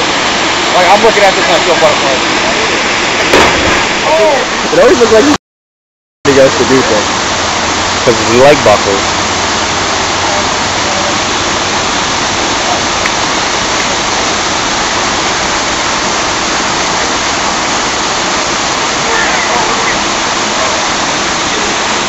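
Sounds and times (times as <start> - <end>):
waterfall rushing: 0.0 - 5.4, 6.3 - 22.0.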